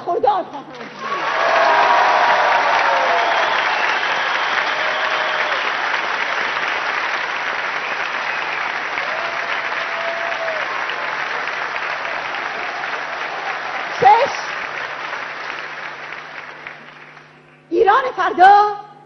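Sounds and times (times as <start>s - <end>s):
audience applauding: 0.7s - 17.4s.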